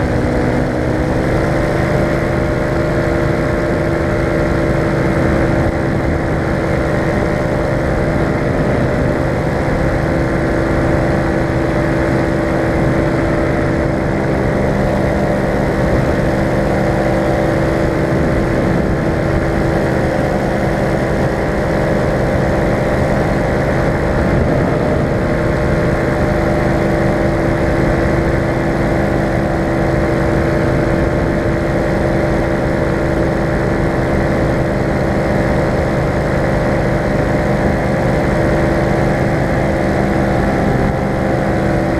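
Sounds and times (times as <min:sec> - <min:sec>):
paramotor engine and propeller: 0:00.0 - 0:41.9.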